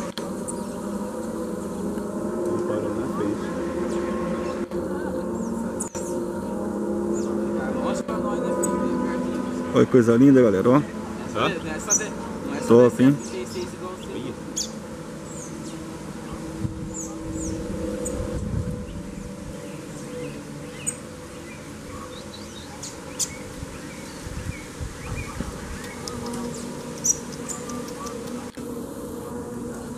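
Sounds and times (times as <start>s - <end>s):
small birds chirping: 0.0s - 28.6s
insects buzzing: 0.0s - 29.9s.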